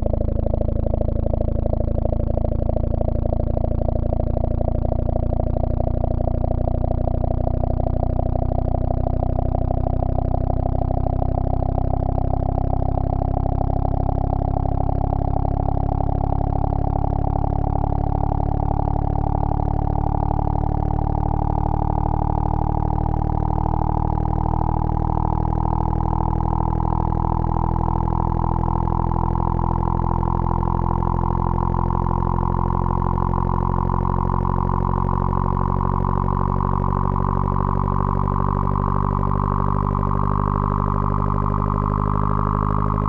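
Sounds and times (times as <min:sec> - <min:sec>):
buzzy electronic tone rising: 0:00.0 - 0:43.0.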